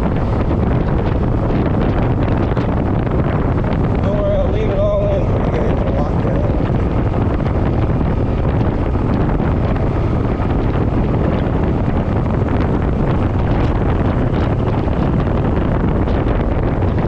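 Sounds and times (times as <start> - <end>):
motorcycle engine: 0.0 - 17.0
road noise: 0.0 - 17.0
wind noise on microphone: 0.0 - 17.0.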